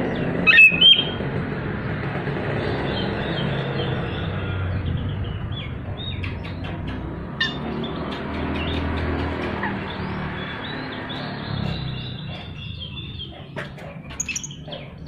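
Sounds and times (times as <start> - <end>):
bird singing in rapid chirps: 0.0 - 15.0.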